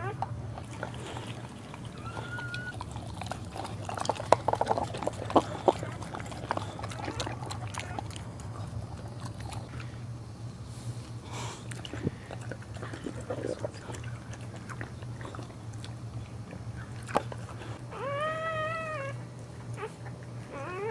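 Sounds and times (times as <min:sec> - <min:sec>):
dog wet clicking and smacking: 0:00.0 - 0:10.2, 0:11.6 - 0:20.9
steady low hum: 0:00.0 - 0:20.9.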